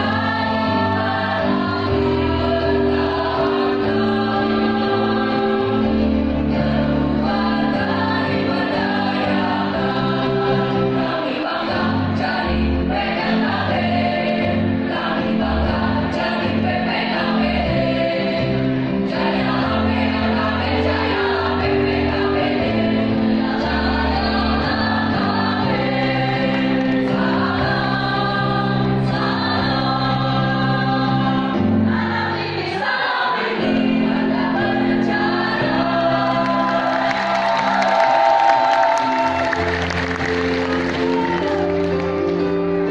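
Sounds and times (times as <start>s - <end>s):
choir singing in harmony: 0.0s - 42.9s.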